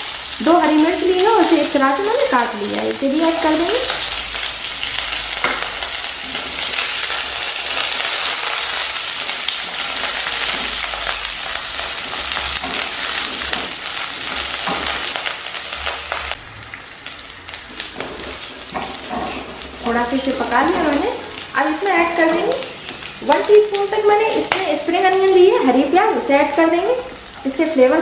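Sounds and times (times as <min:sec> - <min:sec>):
garlic sizzling in hot oil: 0:00.0 - 0:28.0.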